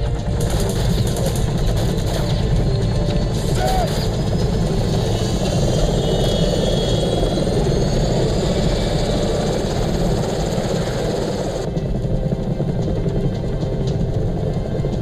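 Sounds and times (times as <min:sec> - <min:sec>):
helicopter engine rumble: 0:00.0 - 0:15.0
helicopter rotor chop: 0:00.0 - 0:15.0.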